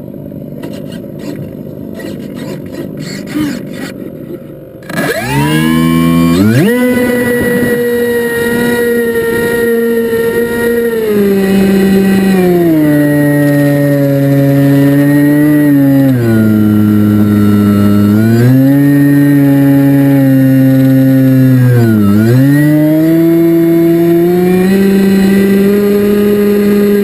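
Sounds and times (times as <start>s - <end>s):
drone motors and propellers whining: 0.0s - 27.0s.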